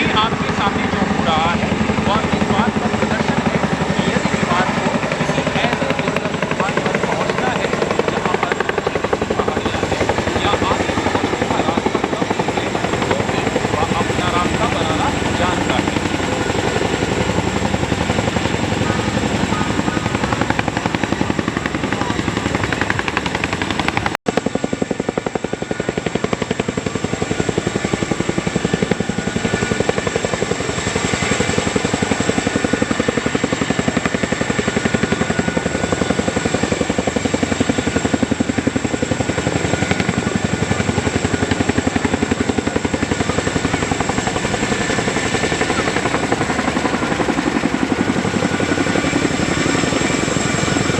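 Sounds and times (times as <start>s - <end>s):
helicopter rotors chopping: 0.0s - 50.9s.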